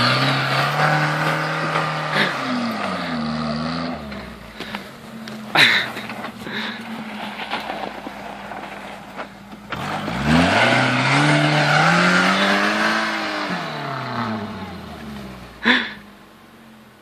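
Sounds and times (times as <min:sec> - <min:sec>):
wheels spinning in snow: 0:00.0 - 0:15.8
car engine running and revving: 0:00.0 - 0:17.0.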